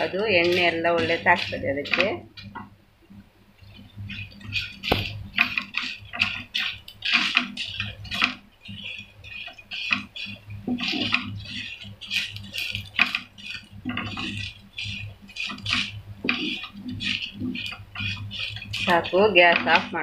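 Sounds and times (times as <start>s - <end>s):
spatula scraping frying pan: 0.0s - 2.7s, 3.6s - 20.0s.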